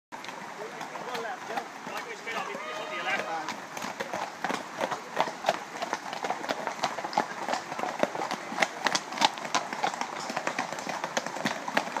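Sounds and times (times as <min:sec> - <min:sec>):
horses trotting on dirt track: 0:00.2 - 0:12.0.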